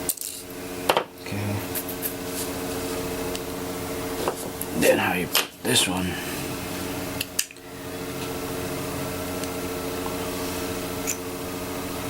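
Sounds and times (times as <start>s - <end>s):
fan or air conditioner hum: 0.0s - 12.0s.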